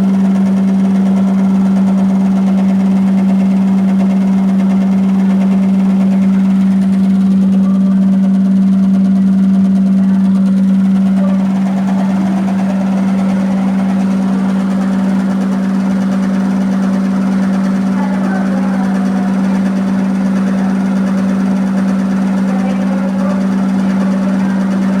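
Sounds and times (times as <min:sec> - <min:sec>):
squeaking whine: 0:00.0 - 0:25.0
washing machine spinning hum: 0:00.0 - 0:25.0.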